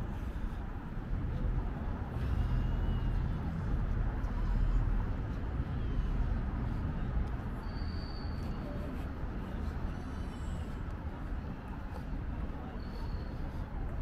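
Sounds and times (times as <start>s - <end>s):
steady low urban rumble: 0.0s - 14.0s.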